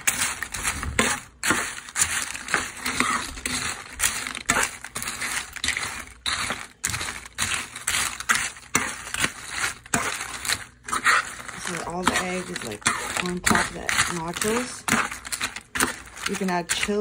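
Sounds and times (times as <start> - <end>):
chips crunching in frying pan: 0.0 - 17.0.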